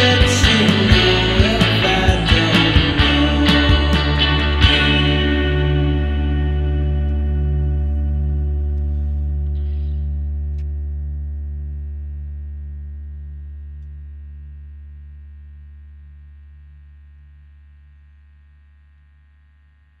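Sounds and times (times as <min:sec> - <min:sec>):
held guitar drone: 0:00.0 - 0:18.8.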